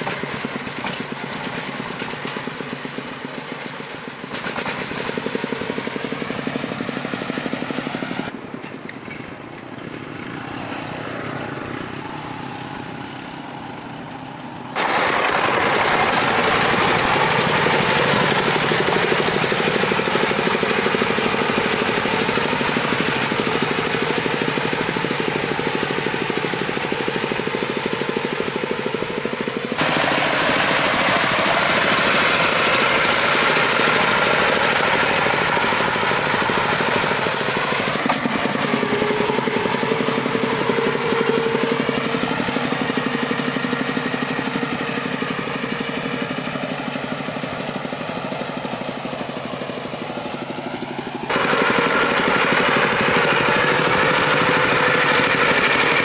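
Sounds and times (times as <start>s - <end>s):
engine running with knocking beat: 0.0s - 8.6s, 9.5s - 56.0s.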